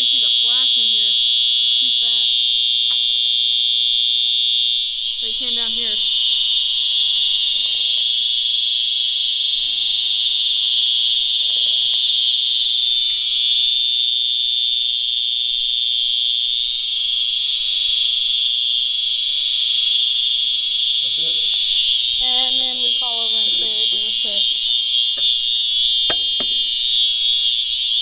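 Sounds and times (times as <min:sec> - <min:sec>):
fire alarm horn tone: 0:00.0 - 0:28.0.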